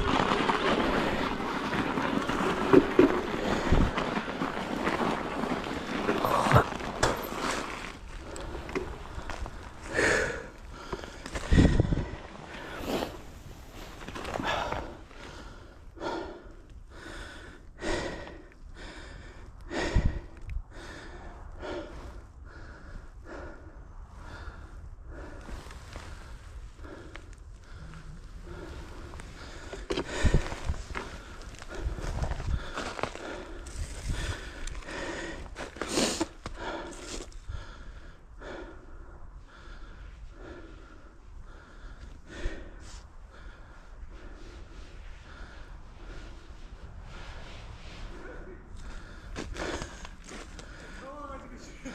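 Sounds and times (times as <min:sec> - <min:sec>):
rider breathing hard: 0:00.0 - 0:51.9.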